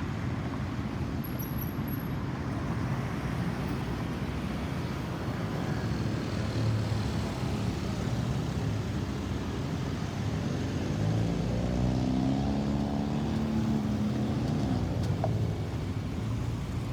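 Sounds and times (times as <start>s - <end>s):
road traffic: 0.1s - 16.9s.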